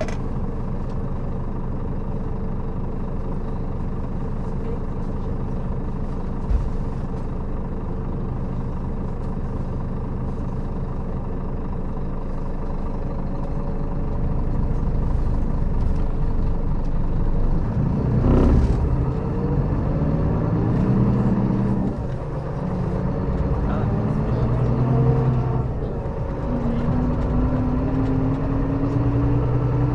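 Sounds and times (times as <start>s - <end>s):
diesel coach engine pulling away: 0.0s - 29.9s.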